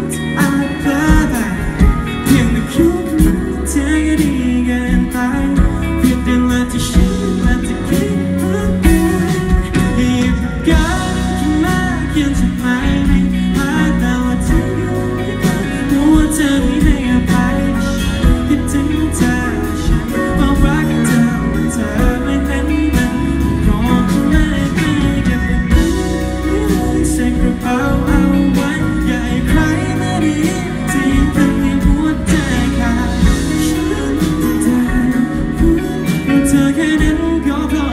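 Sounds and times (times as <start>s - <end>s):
live rock band playing: 0.0s - 37.9s
man singing: 0.0s - 37.9s.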